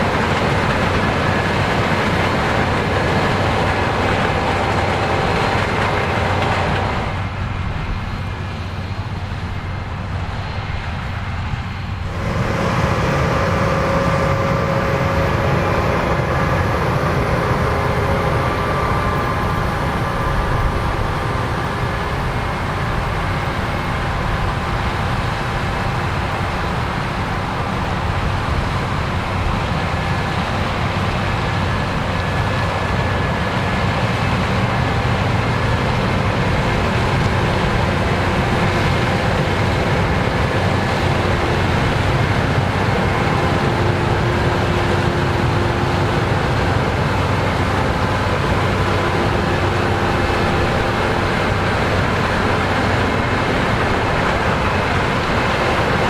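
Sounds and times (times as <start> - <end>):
combine harvester running: 0.0 - 56.0
faint steady whines: 0.0 - 56.0.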